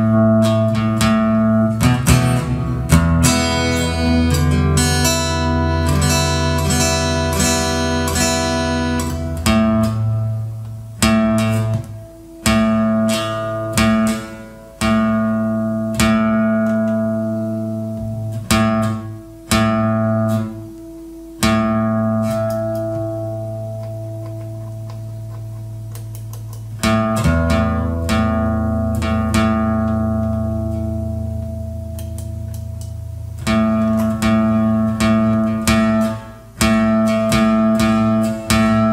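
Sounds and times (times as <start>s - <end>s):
acoustic guitar chords: 0.0s - 38.9s.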